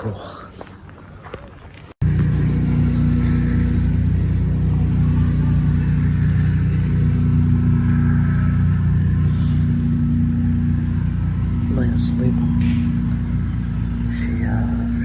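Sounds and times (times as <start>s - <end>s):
motor engine low drone: 2.0s - 15.0s.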